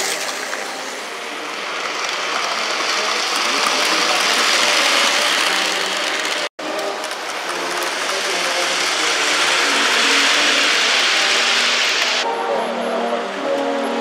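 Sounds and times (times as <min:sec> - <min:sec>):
model train motor whirring: 0:00.0 - 0:12.2
model train wheels clicking on track: 0:00.0 - 0:12.2.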